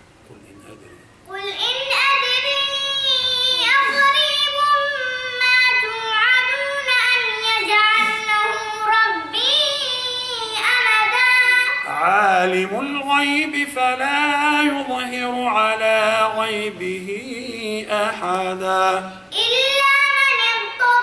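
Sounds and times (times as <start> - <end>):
boy chanting melodically: 1.3 - 21.0.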